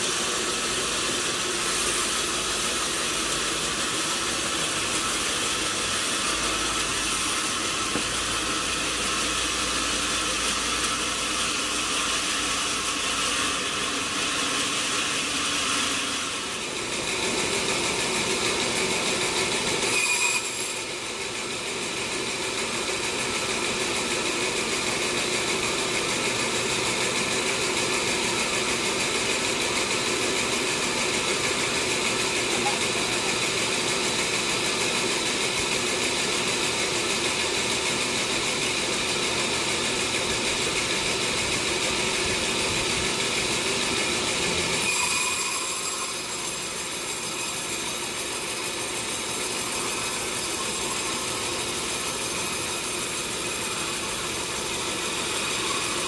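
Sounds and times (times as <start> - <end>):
sawmill machinery cutting log: 0.0 - 56.0.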